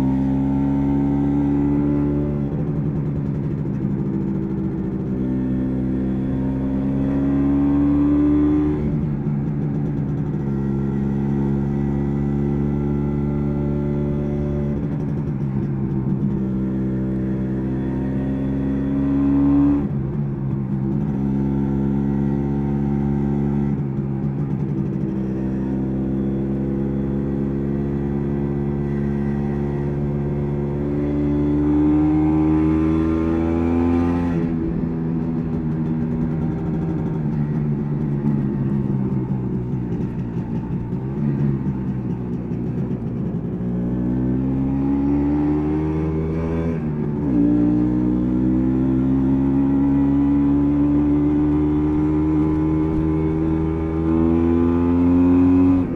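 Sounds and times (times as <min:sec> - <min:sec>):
two-stroke motorcycle engine revving: 0:00.0 - 0:55.9.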